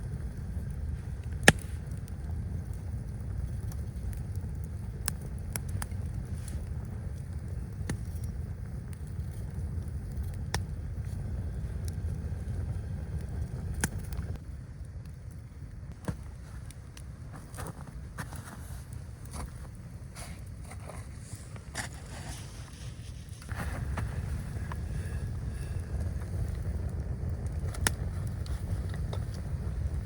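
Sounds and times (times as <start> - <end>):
blizzard wind rumbling: 0.0 - 30.0
sharp snaps and cracks: 0.1 - 11.2, 11.8 - 20.8, 23.3 - 30.0.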